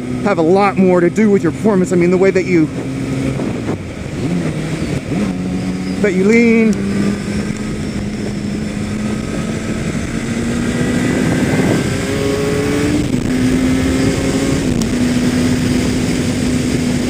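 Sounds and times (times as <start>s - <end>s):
motorcycle engine running at speed: 0.0s - 17.0s
wind noise: 0.0s - 17.0s.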